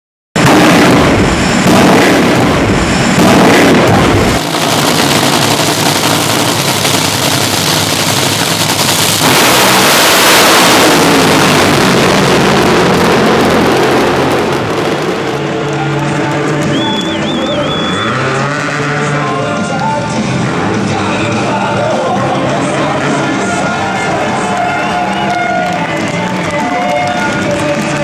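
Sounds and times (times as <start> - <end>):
drag racing engines roaring: 0.4 - 28.0.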